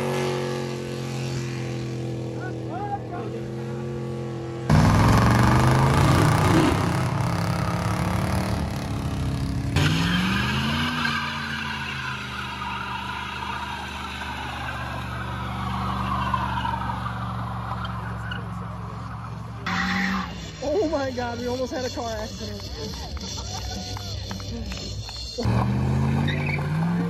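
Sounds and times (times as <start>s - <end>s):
tires spinning in burnout: 0.0s - 21.9s, 25.0s - 27.0s
car engine revving: 0.0s - 22.7s, 24.4s - 27.0s
car engine accelerating: 0.0s - 23.4s, 24.2s - 27.0s.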